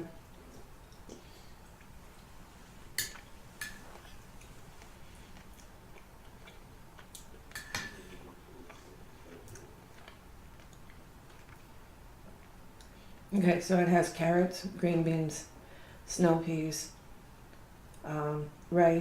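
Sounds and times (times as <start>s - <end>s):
faint eating sounds: 0.0s - 19.0s.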